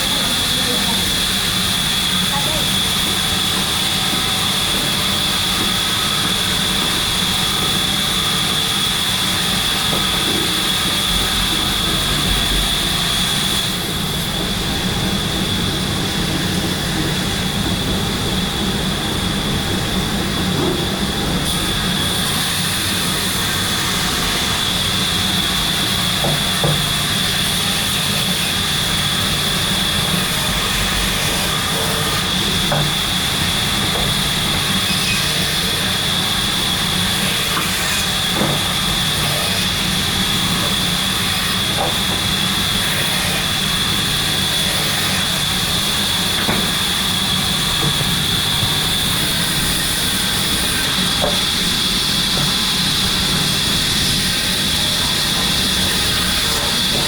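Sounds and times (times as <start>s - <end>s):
machinery whine and hum: 0.0s - 57.0s.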